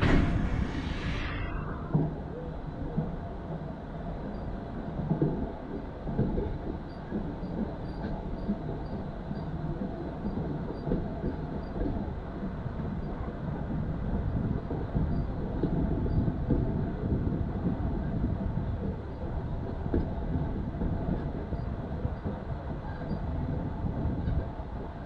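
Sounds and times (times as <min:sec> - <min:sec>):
train rumbling on track: 0:00.0 - 0:25.0
train knocks and rattles: 0:04.2 - 0:25.0.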